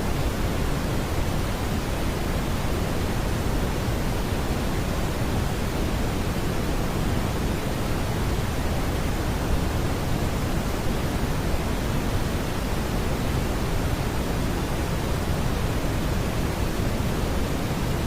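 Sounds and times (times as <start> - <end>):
brown noise rushing hiss: 0.0 - 18.0.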